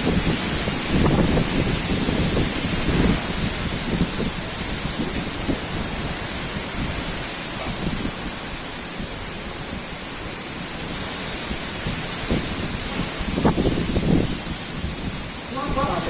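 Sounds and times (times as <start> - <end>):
high rain-like hiss: 0.0 - 16.0
strong wind blowing: 0.0 - 16.0
wind gusts hitting microphone: 0.0 - 16.0.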